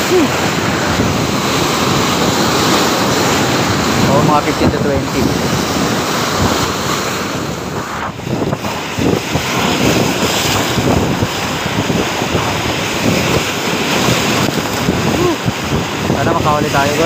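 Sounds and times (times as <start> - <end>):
surf breaking over rocks: 0.0 - 17.0
wind buffeting microphone: 0.0 - 17.0.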